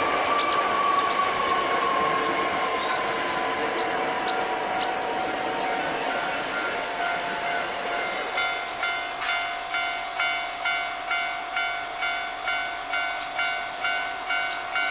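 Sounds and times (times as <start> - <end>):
electric train running: 0.0 - 14.9
level crossing alarm bell: 0.0 - 14.9.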